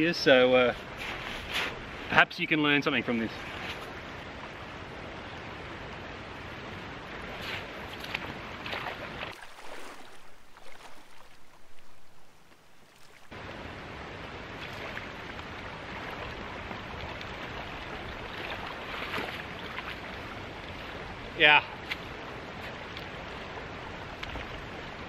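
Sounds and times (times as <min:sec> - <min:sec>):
river water flowing and splashing: 0:00.0 - 0:25.0.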